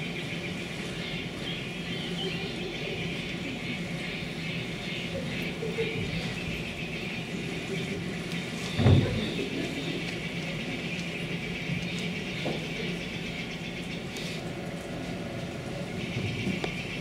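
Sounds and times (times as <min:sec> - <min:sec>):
auditorium hum and hiss: 0:00.0 - 0:17.0.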